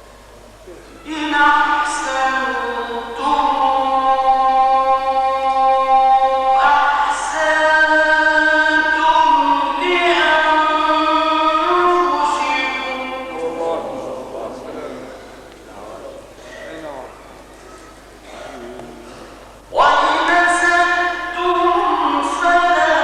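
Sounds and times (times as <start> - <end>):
man reciting melodically: 1.0 - 17.2, 18.4 - 23.0.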